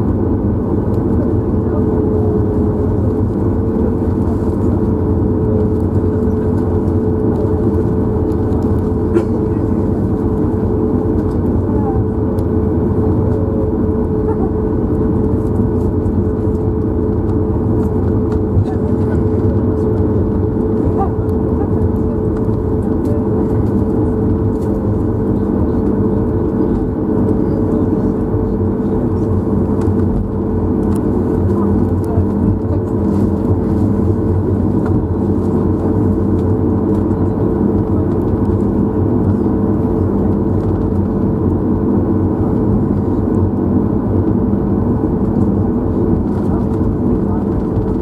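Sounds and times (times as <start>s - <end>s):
airplane cabin engine hum: 0.0s - 48.0s.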